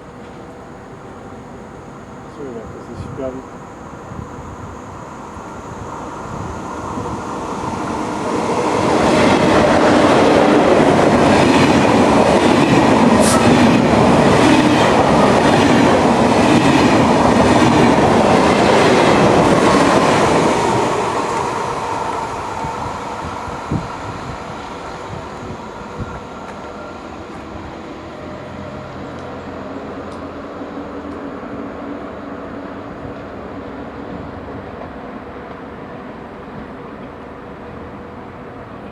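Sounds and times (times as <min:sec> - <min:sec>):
train passing at speed: 0:00.0 - 0:38.9.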